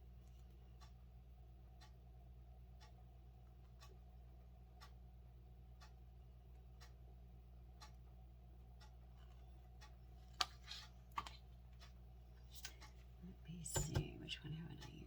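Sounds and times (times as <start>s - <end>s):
clock ticking faintly: 0.0s - 10.0s, 11.7s - 15.0s.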